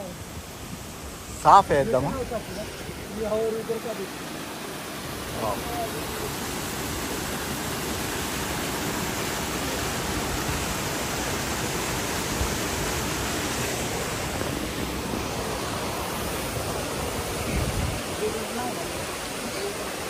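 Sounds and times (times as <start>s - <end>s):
stream rushing over stones: 0.0s - 20.0s.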